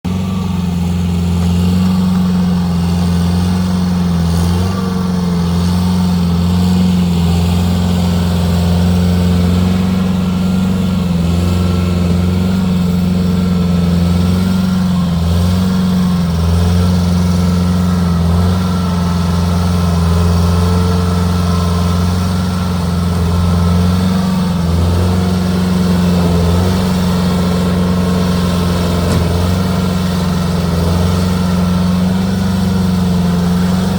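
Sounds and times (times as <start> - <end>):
engine running with low hum: 0.0 - 33.9.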